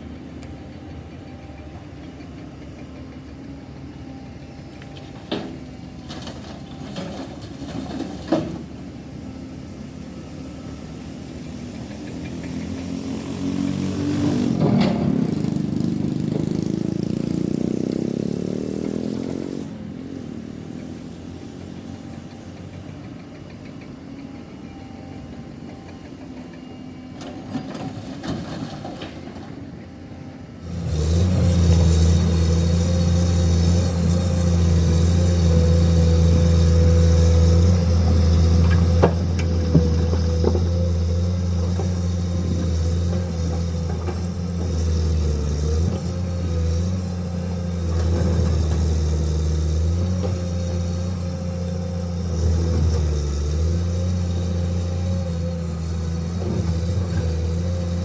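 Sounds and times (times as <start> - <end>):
close engine running loud: 0.0 - 58.0
heavy diesel truck engines: 0.0 - 58.0.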